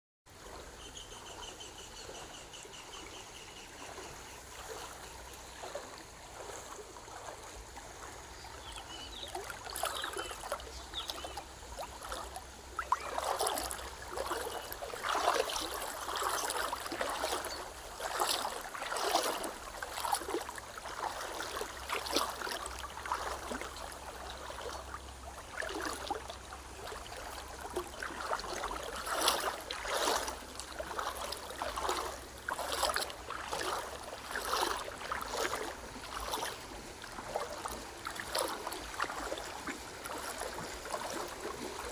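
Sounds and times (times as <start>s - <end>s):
river water trickling and splashing: 0.3s - 41.9s.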